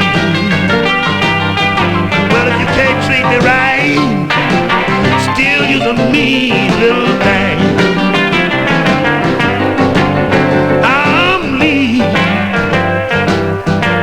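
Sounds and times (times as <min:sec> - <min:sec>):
electric blues band playing: 0:00.0 - 0:14.0
electric guitar: 0:00.0 - 0:14.0.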